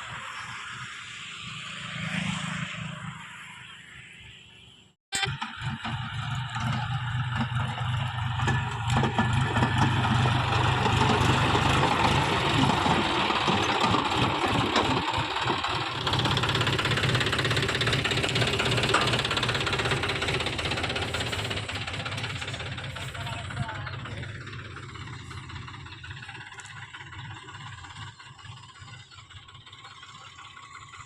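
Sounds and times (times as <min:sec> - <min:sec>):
tractor diesel engine running: 0:05.2 - 0:31.0.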